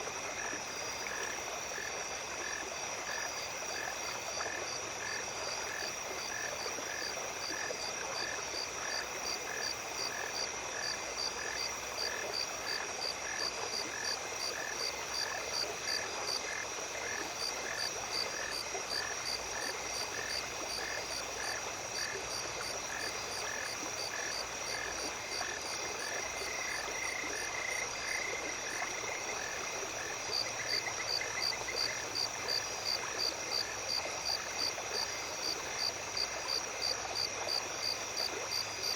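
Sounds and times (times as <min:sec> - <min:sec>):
night insects chirping: 0:00.0 - 0:38.9
stream trickling: 0:00.0 - 0:38.9.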